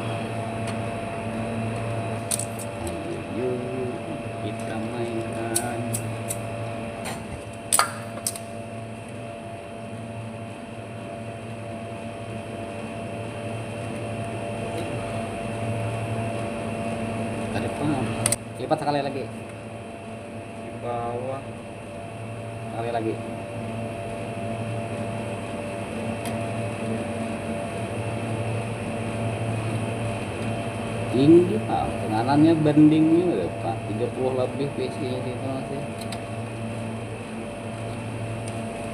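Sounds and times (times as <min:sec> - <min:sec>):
electric motor hum: 0:00.0 - 0:38.9.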